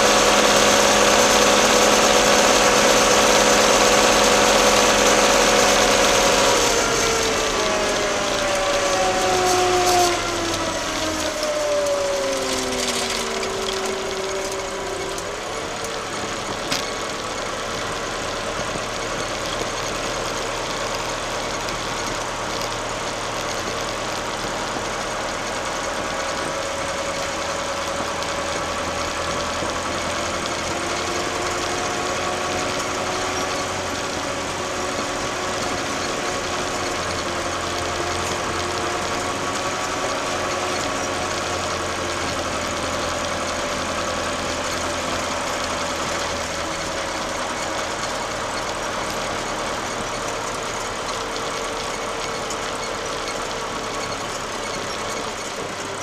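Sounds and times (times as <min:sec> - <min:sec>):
tractor diesel engine running: 0:00.0 - 0:56.0
whining machine tone: 0:00.0 - 0:56.0.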